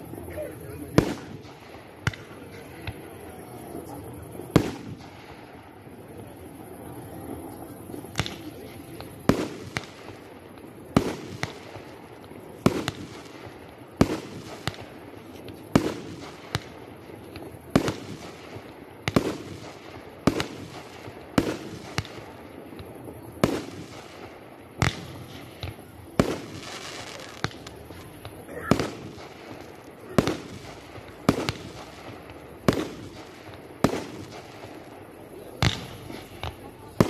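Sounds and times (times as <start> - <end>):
fireworks bangs with echo: 0.0 - 37.0
small fireworks pops: 0.0 - 37.0.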